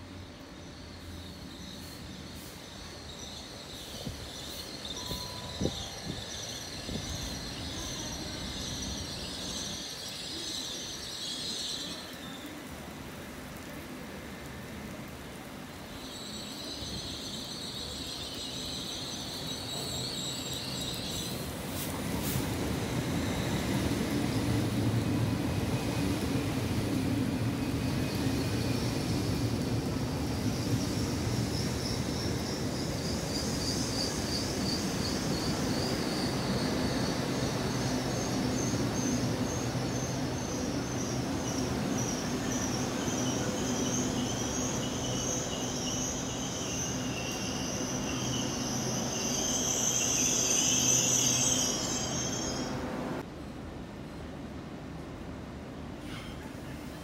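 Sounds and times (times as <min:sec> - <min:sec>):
train rumble: 0:00.0 - 0:57.0.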